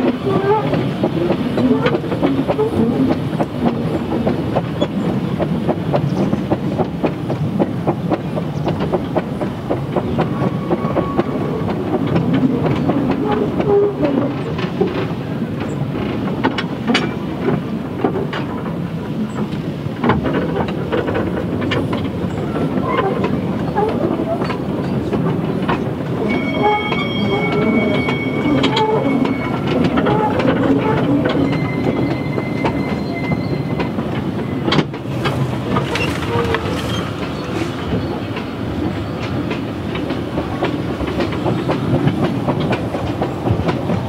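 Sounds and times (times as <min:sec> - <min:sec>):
train rumbling on track: 0:00.0 - 0:44.0
wheels clattering over rail joints: 0:00.0 - 0:44.0.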